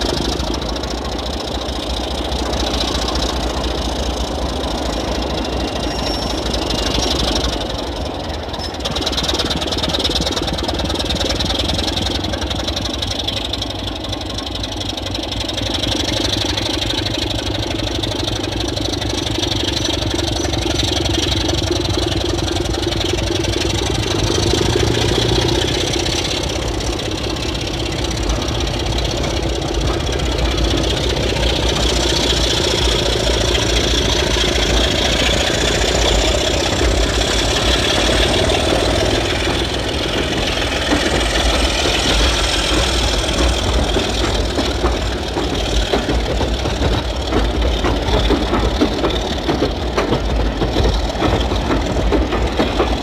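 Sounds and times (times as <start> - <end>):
diesel locomotive engine running: 0.0 - 53.0.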